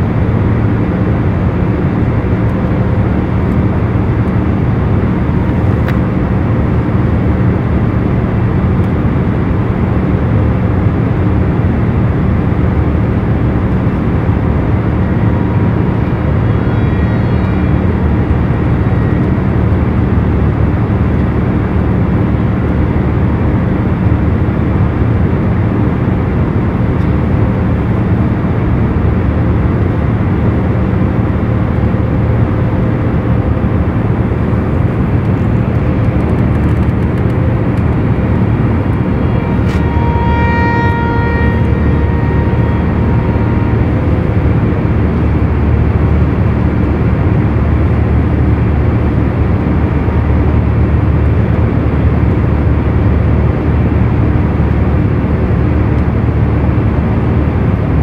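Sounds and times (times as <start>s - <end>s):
loud steady roar: 0.0s - 58.0s
low steady hums: 0.0s - 58.0s.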